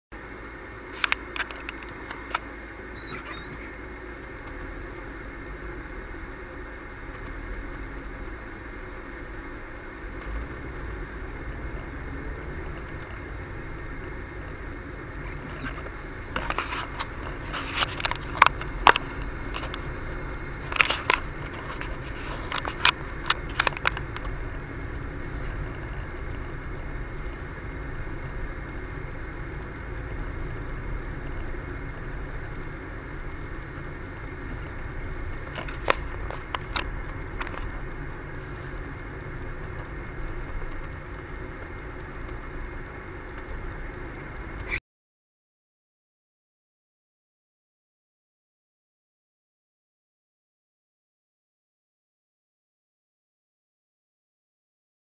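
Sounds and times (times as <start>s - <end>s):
car road and engine noise: 0.1s - 44.8s
sharp clicks and cracks: 0.2s - 44.8s.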